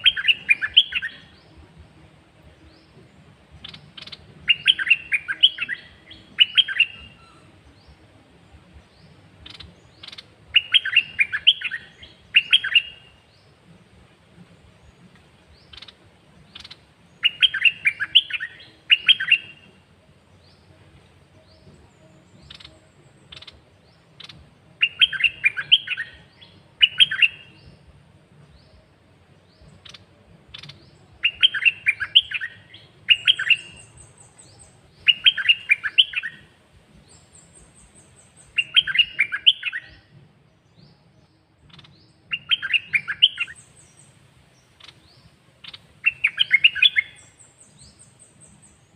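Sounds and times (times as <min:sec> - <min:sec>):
faint high bird chirps: 0:00.0 - 0:01.8, 0:02.5 - 0:13.6, 0:14.6 - 0:48.9
caged songbird singing: 0:00.0 - 0:48.9.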